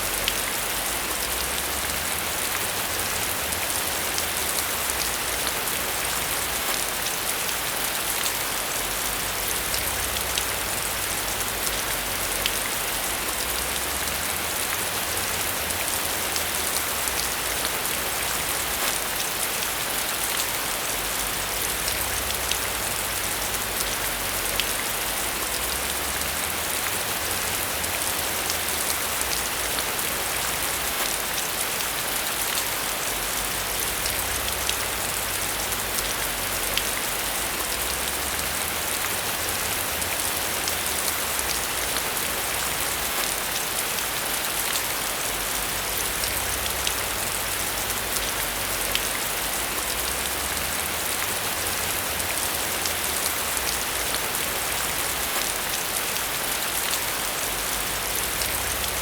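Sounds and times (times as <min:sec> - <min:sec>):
rain hissing on a surface: 0:00.0 - 0:59.0.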